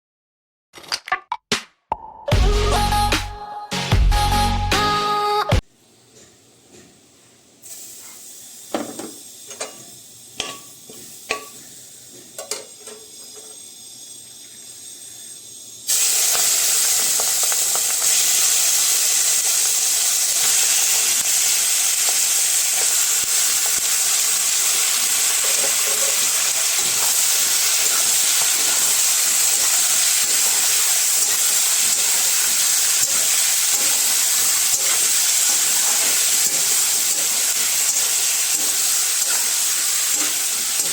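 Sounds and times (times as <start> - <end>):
food sizzling in hot oil: 7.6 - 40.9.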